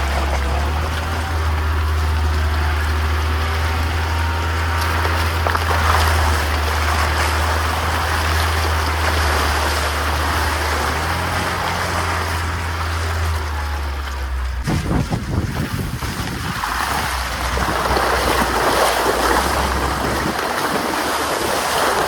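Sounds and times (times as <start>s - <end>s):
road-noise rumble: 0.0s - 22.0s
vehicle engine drone: 0.0s - 22.0s.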